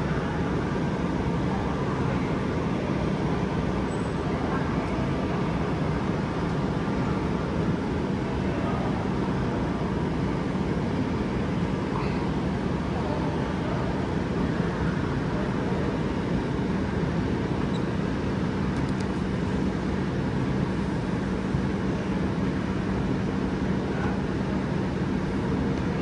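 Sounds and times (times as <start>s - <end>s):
faint constant hum: 0.0s - 26.0s.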